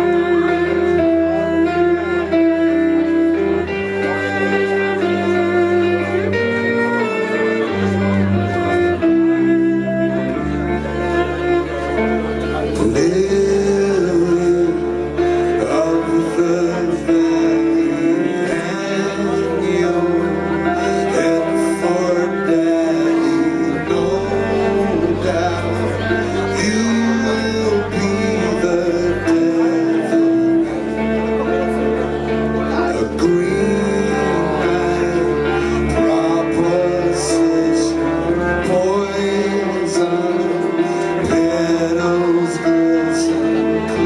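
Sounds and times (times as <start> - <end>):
live band playing instrumental: 0.0 - 44.0.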